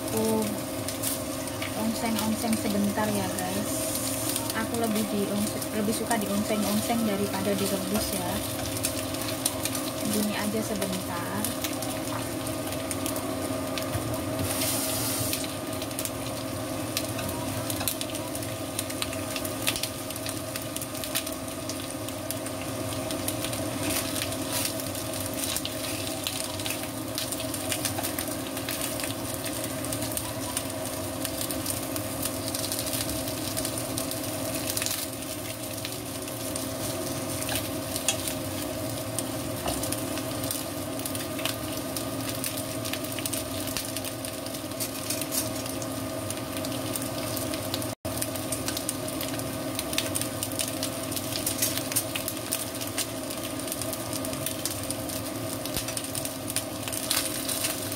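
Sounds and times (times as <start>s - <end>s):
meat sizzling in a wok: 0.0s - 57.9s
steady hum: 0.0s - 57.9s.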